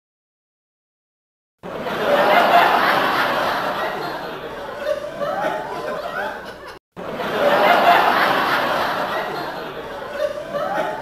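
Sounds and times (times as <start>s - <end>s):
crowd laughing: 1.6s - 11.0s.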